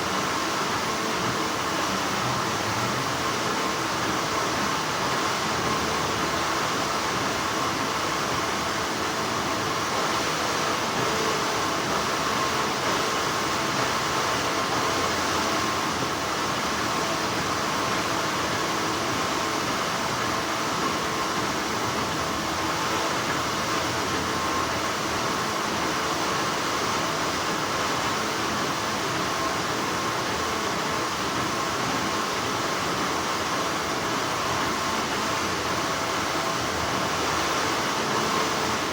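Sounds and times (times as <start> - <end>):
textile factory machinery hum: 0.0 - 38.9.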